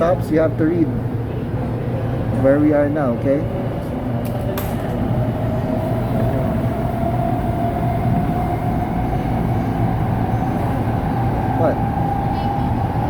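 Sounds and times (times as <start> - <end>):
train rumble with motor whine: 0.0 - 13.0.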